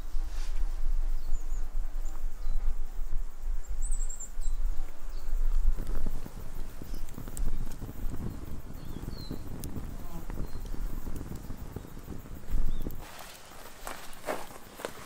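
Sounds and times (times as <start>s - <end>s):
campfire crackling: 0.1s - 15.0s.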